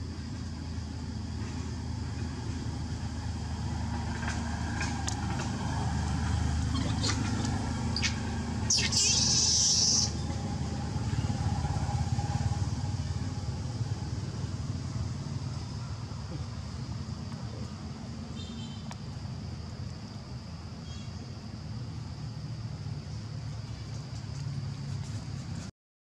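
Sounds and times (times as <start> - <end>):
engine rumble: 0.0 - 25.7.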